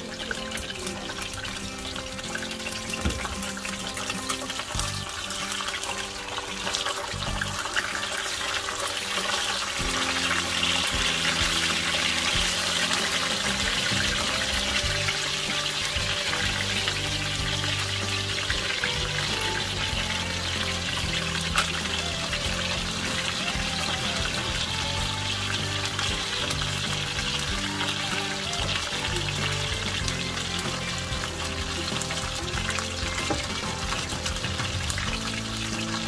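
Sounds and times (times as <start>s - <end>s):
background music: 0.0s - 36.0s
water running from a tap: 0.0s - 36.0s.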